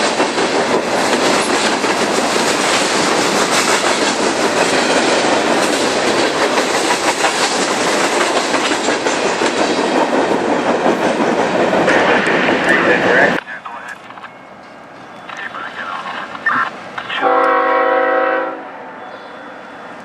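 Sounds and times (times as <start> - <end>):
train wheels clattering on rails: 0.0 - 17.7.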